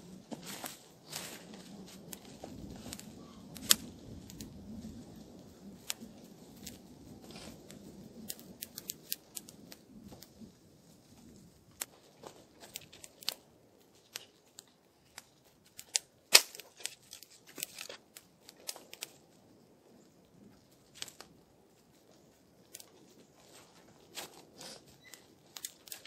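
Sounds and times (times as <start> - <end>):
twig fire crackling: 0.0 - 26.0.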